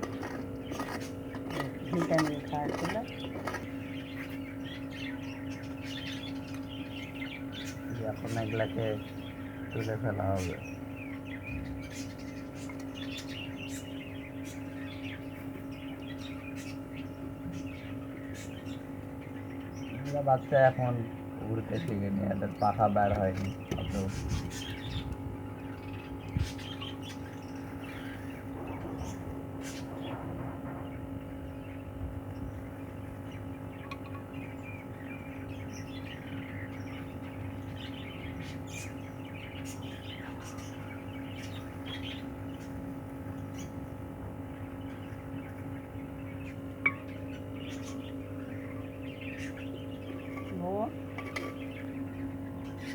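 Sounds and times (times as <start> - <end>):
steady electrical hum: 0.0 - 52.9
budgerigars chirping: 0.1 - 30.2, 34.4 - 43.9, 44.6 - 52.9.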